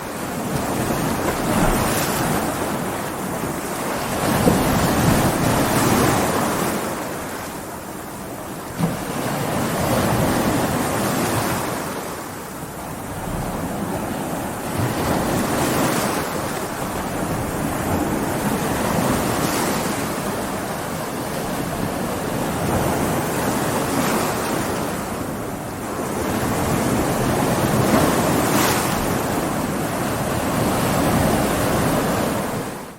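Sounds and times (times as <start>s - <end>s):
ocean waves breaking: 0.0s - 32.9s.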